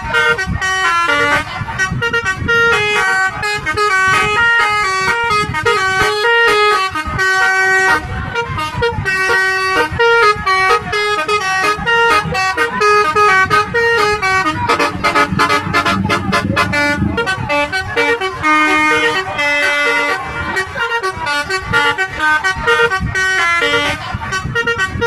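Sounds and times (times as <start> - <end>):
bus horn playing a fast tune: 0.0 - 25.0.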